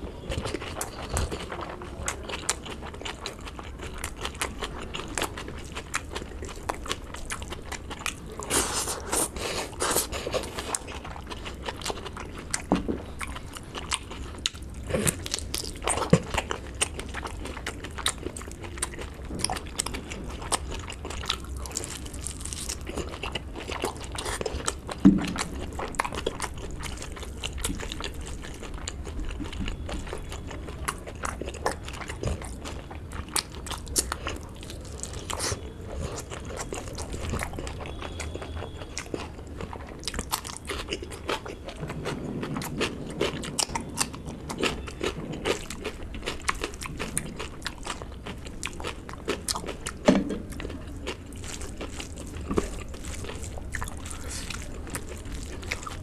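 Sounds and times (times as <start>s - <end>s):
person chewing: 0.0s - 56.0s
crunch: 0.2s - 56.0s.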